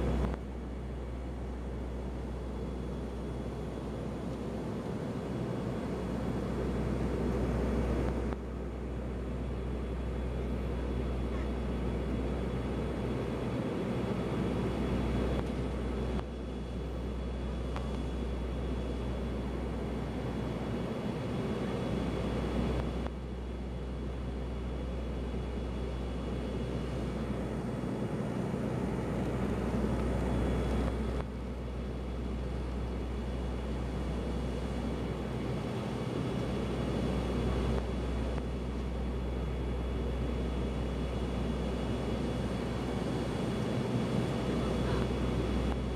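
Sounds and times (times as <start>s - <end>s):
turboprop engines droning in cabin: 0.0s - 45.9s.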